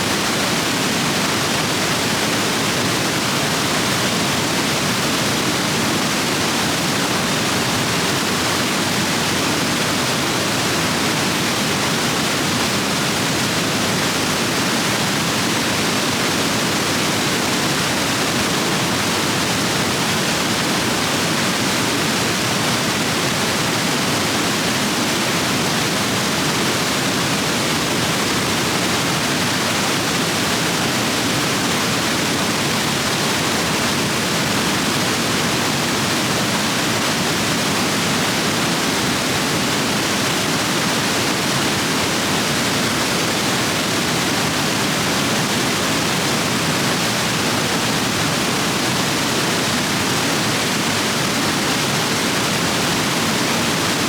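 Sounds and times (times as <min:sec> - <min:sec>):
roaring stream rapids: 0:00.0 - 0:54.0.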